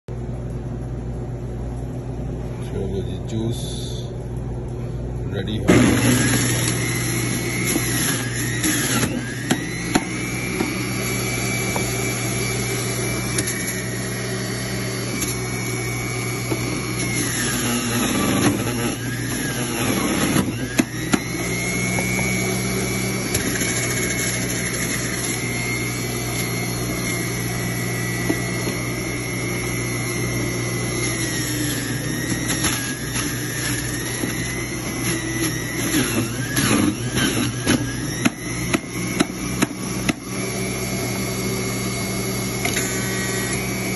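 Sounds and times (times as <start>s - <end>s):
juicer motor whine: 5.4s - 43.9s.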